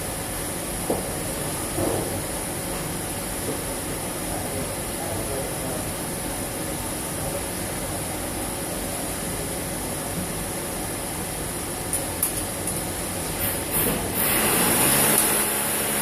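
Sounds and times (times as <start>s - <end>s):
hum and hiss of equipment: 0.0s - 16.0s.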